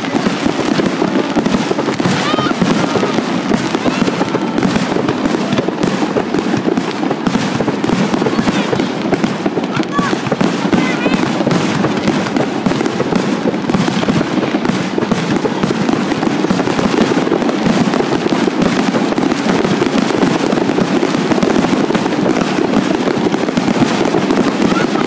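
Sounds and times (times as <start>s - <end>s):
fireworks bursting and crackling: 0.0s - 25.0s.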